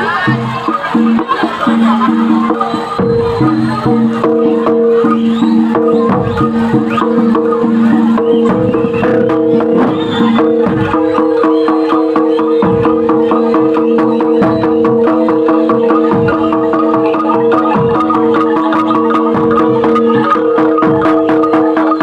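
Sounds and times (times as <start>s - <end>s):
fast dense drumming: 0.0s - 22.0s
steady held tones: 0.0s - 22.0s.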